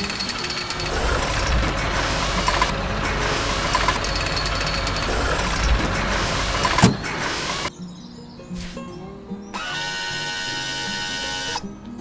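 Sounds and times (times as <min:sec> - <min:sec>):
heavy machine drilling: 0:00.0 - 0:07.7, 0:09.6 - 0:11.6.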